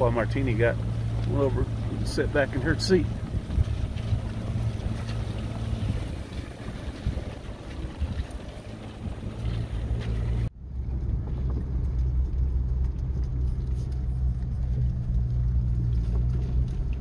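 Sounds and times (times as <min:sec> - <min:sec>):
car engine running: 0:00.0 - 0:17.0
wind and rain on microphone: 0:00.0 - 0:17.0.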